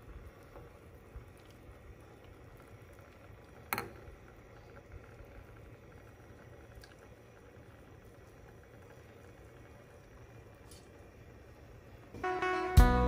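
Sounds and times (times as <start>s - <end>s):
water bubbling at a boil: 0.0s - 12.1s.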